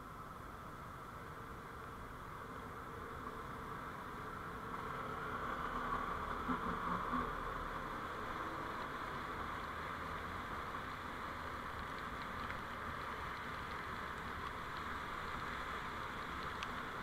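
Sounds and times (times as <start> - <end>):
road and engine hum: 0.0 - 17.0.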